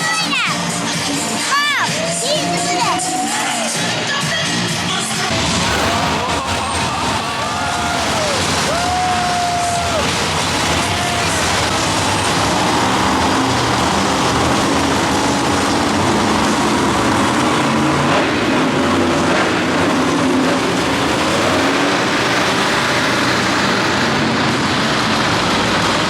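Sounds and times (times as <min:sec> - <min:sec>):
monster truck engines running: 0:00.0 - 0:26.0.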